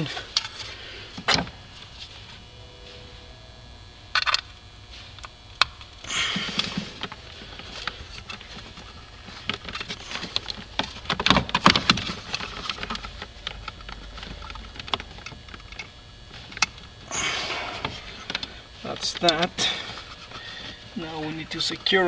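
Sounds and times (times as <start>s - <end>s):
wiring rustling: 0.0s - 22.0s.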